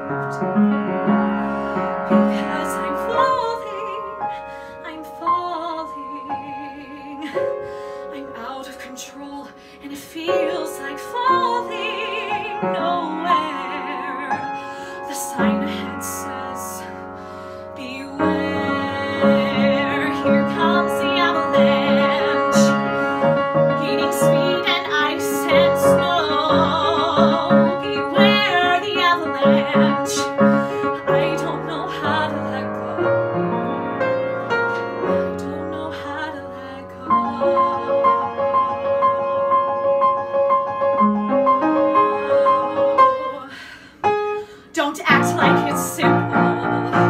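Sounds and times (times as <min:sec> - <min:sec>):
piano accompaniment: 0:00.0 - 0:47.0
woman singing a ballad: 0:01.8 - 0:39.5, 0:41.7 - 0:47.0.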